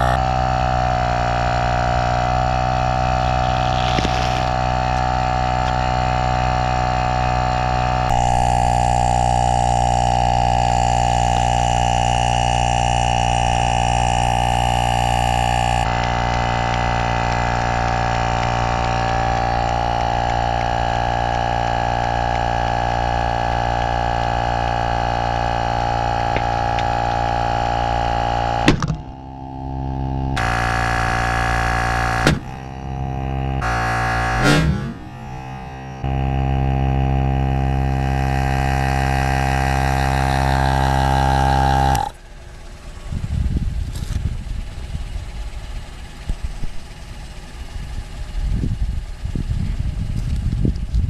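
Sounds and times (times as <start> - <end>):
air compressor droning: 0.0 - 51.0.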